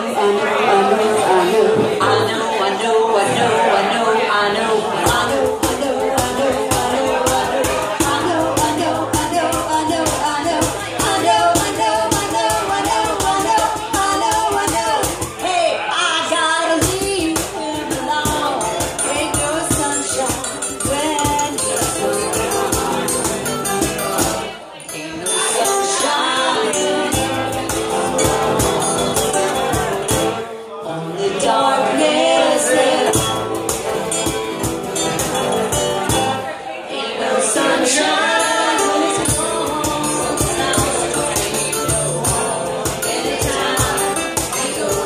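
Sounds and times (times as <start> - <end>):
acoustic band playing slow song: 0.0 - 45.0.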